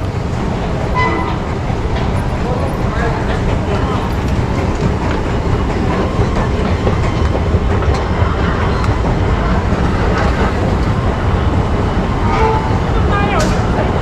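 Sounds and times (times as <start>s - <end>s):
rail clatter: 0.0s - 14.0s
subway train rumble: 0.0s - 14.0s.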